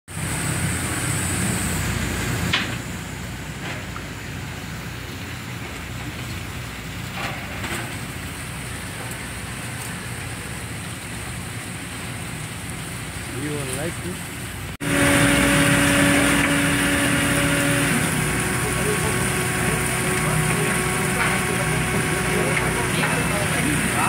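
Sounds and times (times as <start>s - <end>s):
machinery humming: 0.1s - 24.0s.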